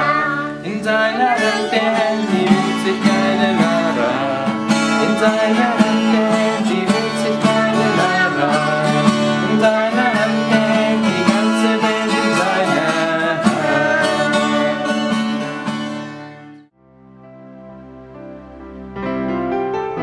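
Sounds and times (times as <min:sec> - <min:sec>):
strummed acoustic guitar music: 0:00.0 - 0:16.7.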